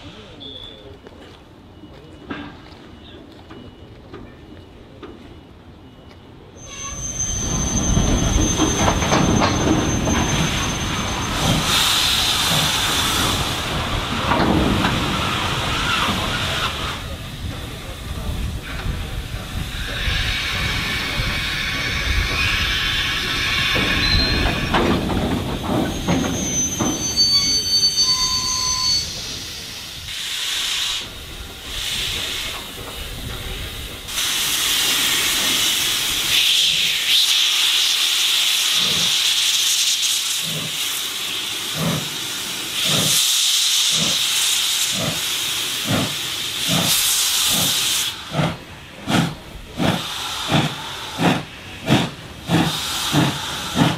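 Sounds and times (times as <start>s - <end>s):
steam locomotive hissing: 6.5s - 53.9s
locomotive exhaust chuffs: 6.7s - 53.9s.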